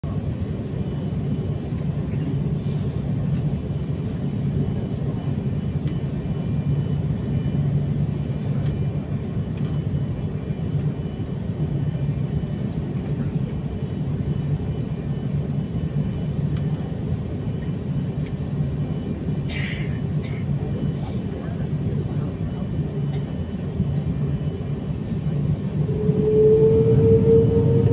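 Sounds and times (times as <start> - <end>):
jet engine cabin rumble: 0.0 - 27.9.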